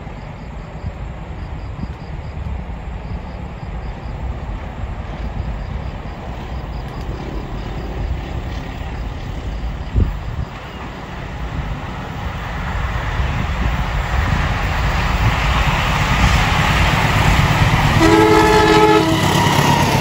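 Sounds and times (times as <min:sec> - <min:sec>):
train approaching rumble: 0:00.0 - 0:20.0.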